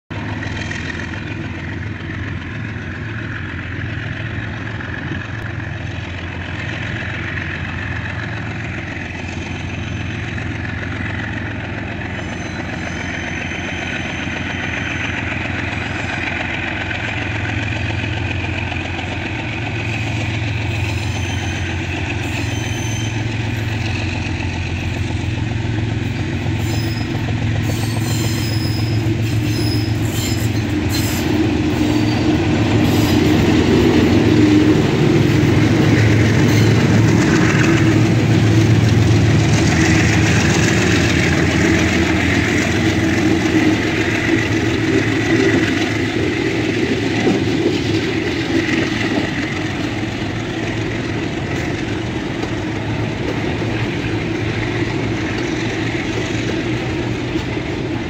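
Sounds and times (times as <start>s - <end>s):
locomotive engine drone: 0.1s - 58.0s.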